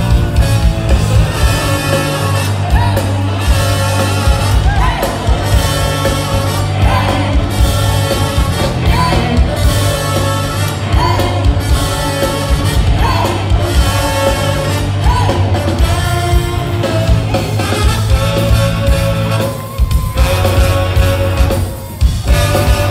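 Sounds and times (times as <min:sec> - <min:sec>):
drums: 0:00.0 - 0:22.9
electric bass: 0:00.0 - 0:22.9
trombone melody: 0:00.0 - 0:22.9.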